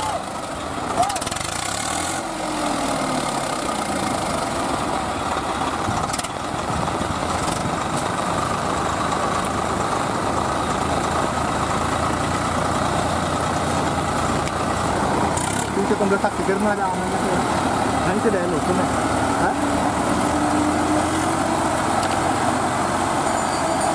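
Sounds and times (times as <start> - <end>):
diesel tractor engines: 0.0 - 23.9.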